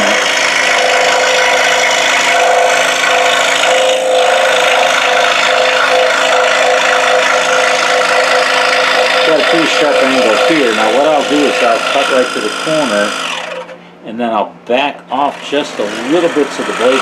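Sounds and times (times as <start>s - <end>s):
scroll saw cutting wood: 0.0s - 13.8s, 15.2s - 17.0s.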